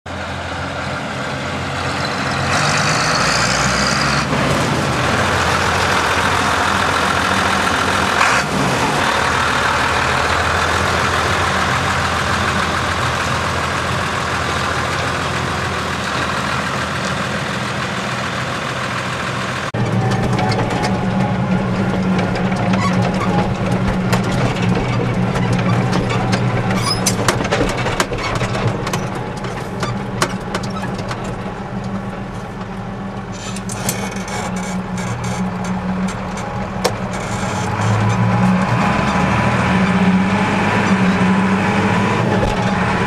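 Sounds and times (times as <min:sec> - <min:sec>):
tractor diesel engine running: 0:00.1 - 0:43.0.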